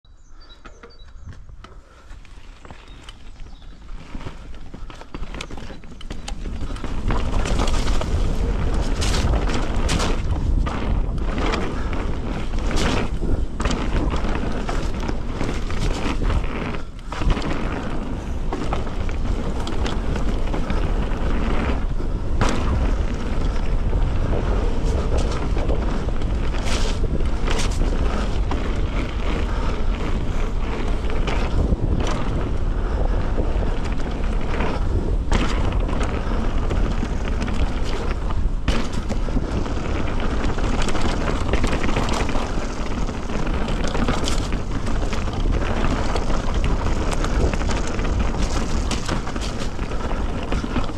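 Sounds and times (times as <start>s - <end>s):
bike tyre noise: 0.2s - 50.9s
wind buffeting microphone: 0.3s - 50.9s
bike clattering over rocks: 2.2s - 50.9s.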